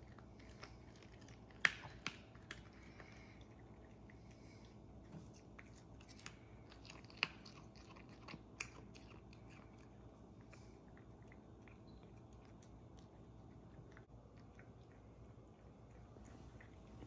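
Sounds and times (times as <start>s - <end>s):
cat chewing meat: 0.0s - 17.0s.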